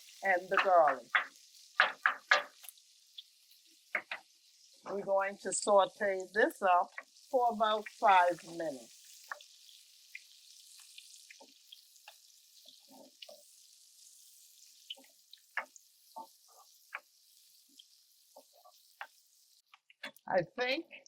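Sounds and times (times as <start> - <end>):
onions sizzling in a pan: 0.0 - 21.0.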